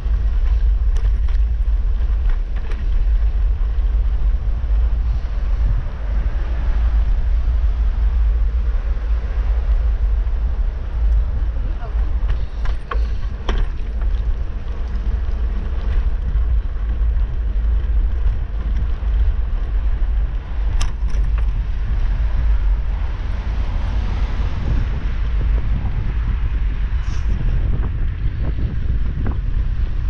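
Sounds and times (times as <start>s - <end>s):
bicycle tyres on asphalt: 0.0s - 30.0s
wind rumble on microphone: 0.0s - 30.0s.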